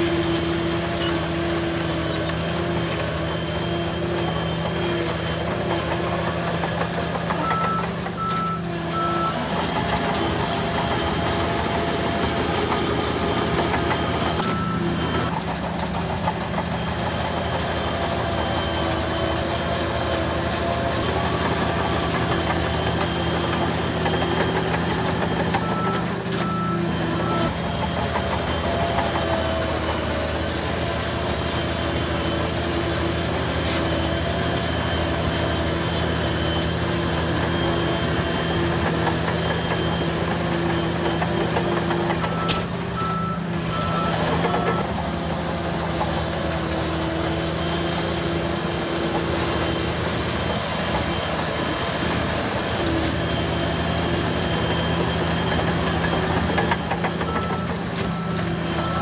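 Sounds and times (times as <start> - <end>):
heavy diesel machines running: 0.0 - 59.0.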